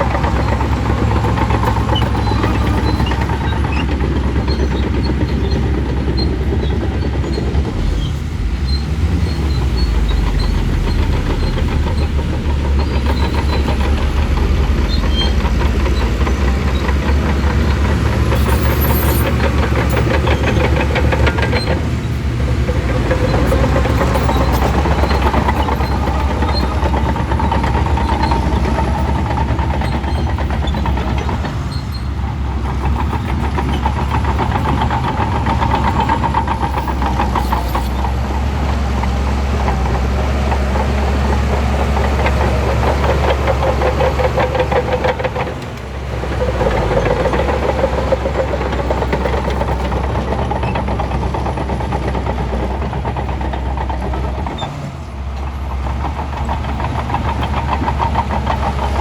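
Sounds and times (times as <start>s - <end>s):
bulldozer diesel engine: 0.0s - 59.0s
steel tracks clanking: 0.0s - 59.0s.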